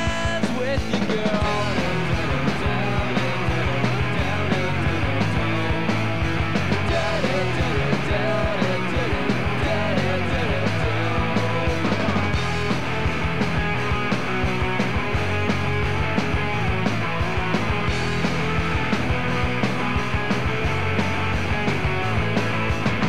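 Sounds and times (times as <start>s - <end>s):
electric guitars: 0.0s - 23.0s
steady drum beat: 0.0s - 23.0s.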